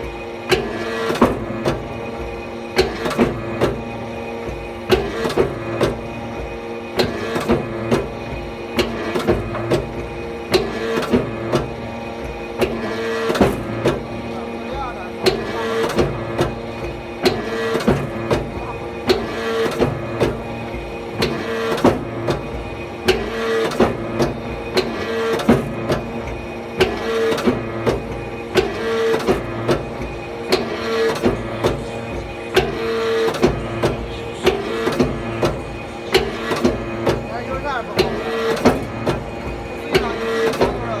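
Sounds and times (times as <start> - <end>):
forging press knocks: 0.0 - 41.0
hydraulic pump hum: 0.0 - 41.0.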